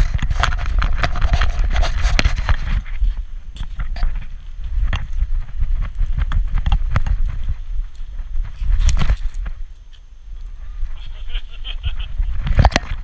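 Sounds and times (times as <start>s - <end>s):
camera mount rumble: 0.0s - 10.0s, 12.4s - 13.0s.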